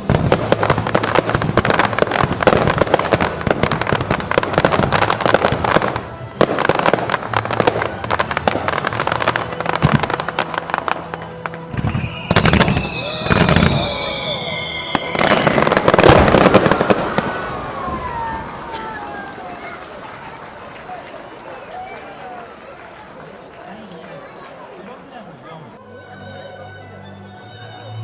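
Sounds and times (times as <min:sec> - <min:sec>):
fireworks crackling and popping: 0:00.0 - 0:24.4.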